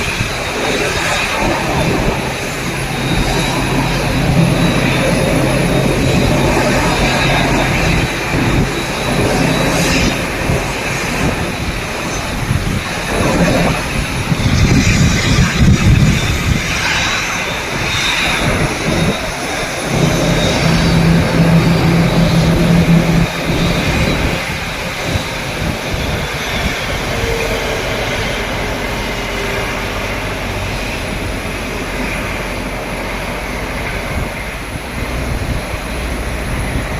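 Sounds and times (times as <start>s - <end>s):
jet engines running at low power: 0.0s - 36.9s.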